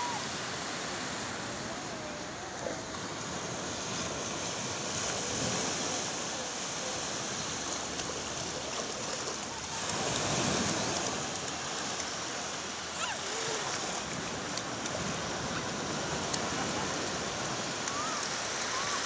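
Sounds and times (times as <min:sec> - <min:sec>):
surf breaking on sandy beach: 0:00.0 - 0:19.0.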